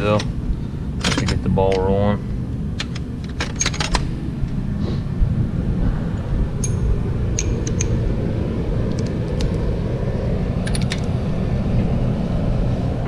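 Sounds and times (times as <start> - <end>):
air compressor droning: 0.0 - 13.0.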